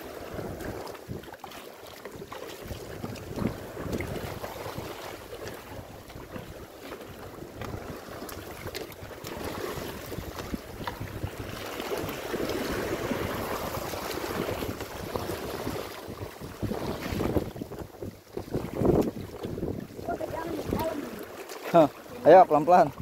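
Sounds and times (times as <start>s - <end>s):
sea water splashing: 0.0s - 23.0s
wind buffeting microphone: 2.6s - 21.3s.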